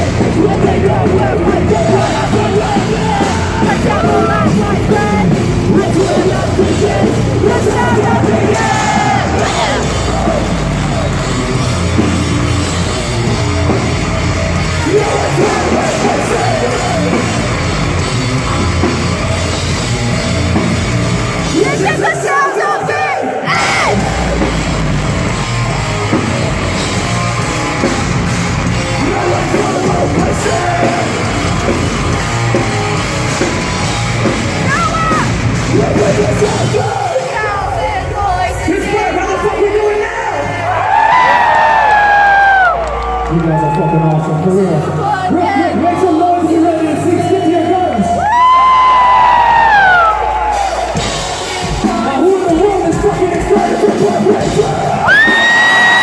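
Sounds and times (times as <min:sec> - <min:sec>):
sung and screamed vocals: 0:00.0 - 0:19.7, 0:21.4 - 0:25.4, 0:28.7 - 0:32.6, 0:34.5 - 0:56.0
distorted guitars: 0:00.0 - 0:43.2, 0:44.3 - 0:56.0
drums: 0:00.0 - 0:56.0.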